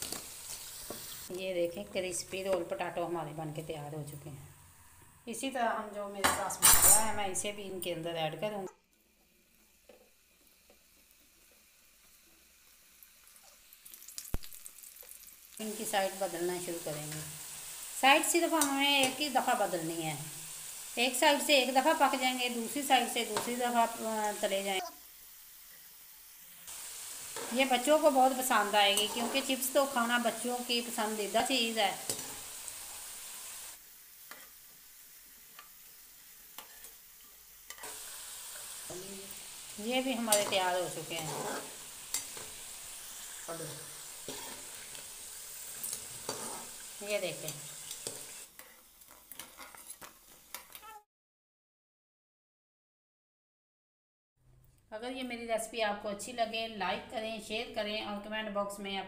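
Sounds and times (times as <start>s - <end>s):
oil sizzling in a wok: 0.0s - 51.0s.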